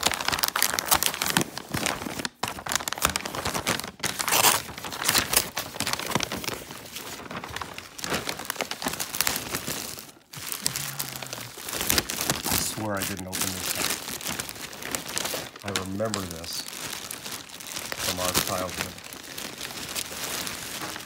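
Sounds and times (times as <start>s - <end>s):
plastic wrap crinkling: 0.0s - 21.0s
wrapping paper tearing and crumpling: 0.0s - 21.0s.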